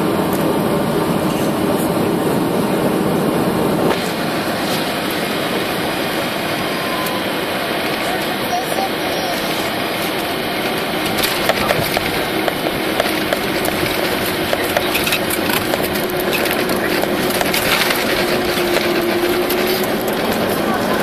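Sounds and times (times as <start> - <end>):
engine and rolling rush: 0.0 - 21.0
low engine hum: 0.0 - 21.0.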